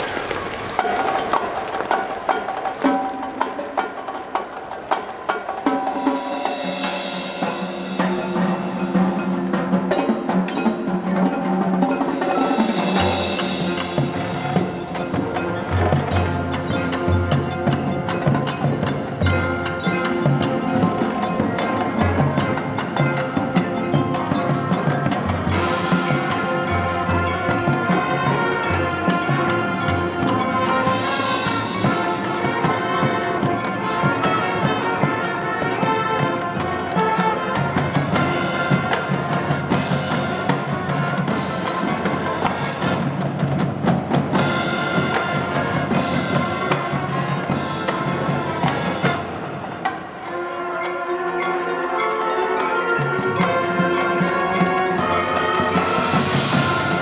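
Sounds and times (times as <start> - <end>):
marching band playing: 0.0 - 57.0.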